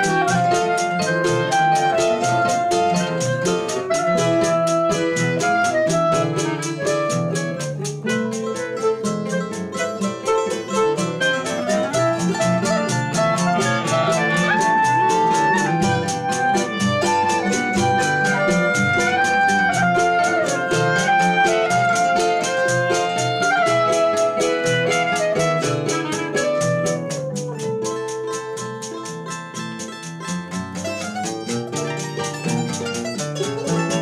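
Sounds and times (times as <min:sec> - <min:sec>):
clarinets playing melody: 0:00.0 - 0:28.6
plucked acoustic guitars: 0:00.0 - 0:34.0.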